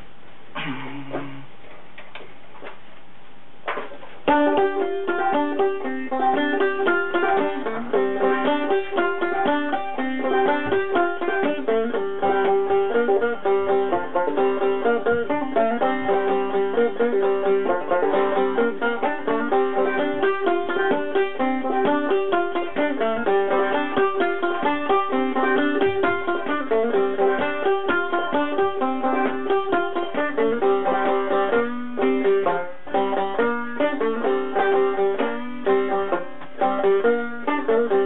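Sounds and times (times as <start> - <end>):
banjo picked fast: 4.2 - 38.0.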